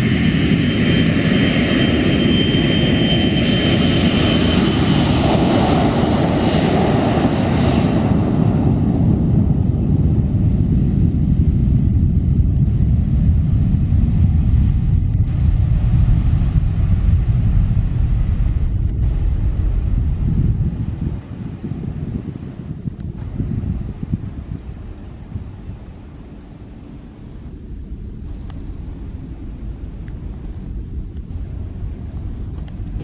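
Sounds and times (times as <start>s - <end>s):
jet engines rumbling at takeoff: 0.0s - 33.0s.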